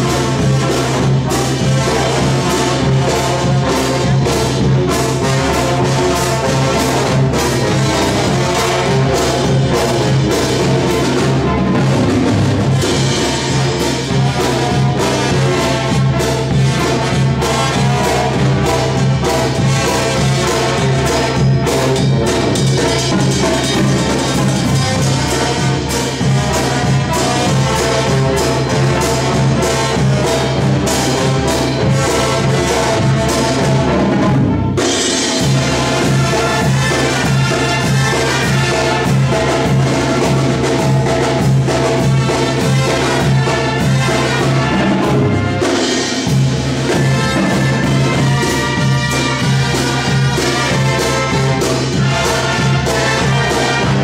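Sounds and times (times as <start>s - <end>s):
bass drum and timbales: 0.0s - 54.0s
brass band playing: 0.0s - 54.0s.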